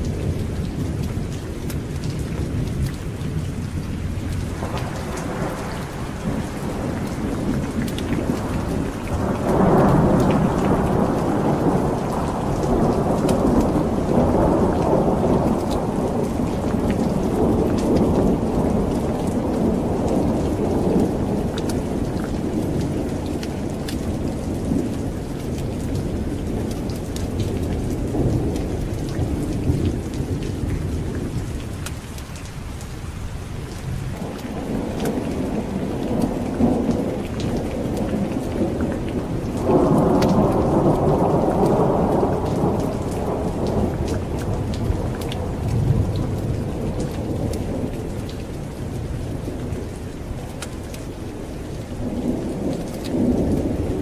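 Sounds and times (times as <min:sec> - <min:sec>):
rolling thunder: 0:00.0 - 0:31.9, 0:33.7 - 0:54.0
heavy rain: 0:00.0 - 0:54.0.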